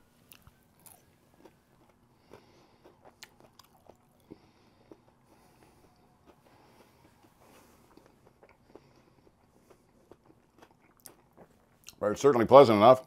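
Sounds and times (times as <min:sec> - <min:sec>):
faint chewing: 0:00.2 - 0:12.0.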